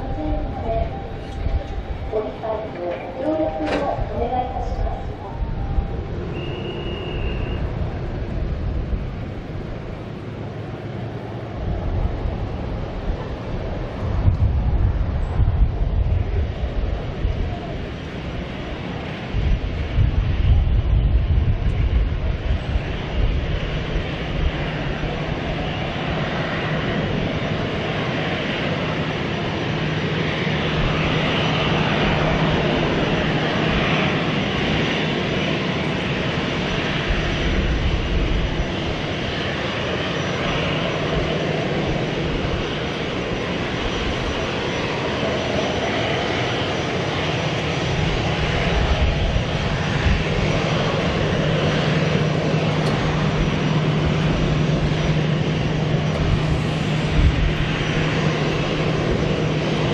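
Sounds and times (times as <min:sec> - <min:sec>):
jet engines running at low thrust: 0:00.0 - 0:59.9.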